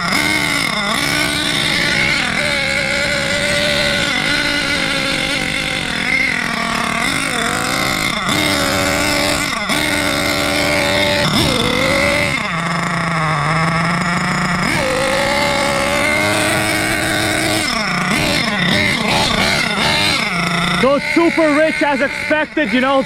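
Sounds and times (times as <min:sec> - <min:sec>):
small nitro engine running: 0:00.0 - 0:23.0.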